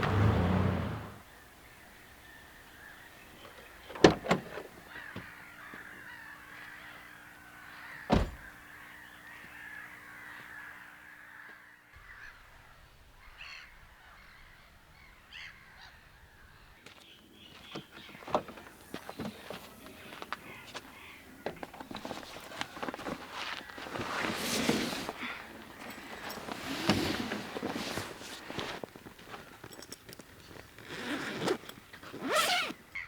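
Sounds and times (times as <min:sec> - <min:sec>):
birds calling: 0:00.0 - 0:28.7.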